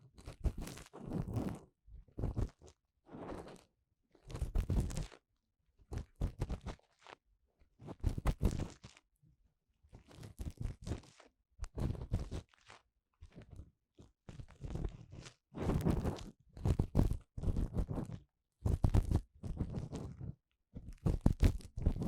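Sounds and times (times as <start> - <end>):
crackly scratching on microphone: 0.2 - 5.2, 5.9 - 7.2, 7.8 - 9.0, 9.9 - 22.0.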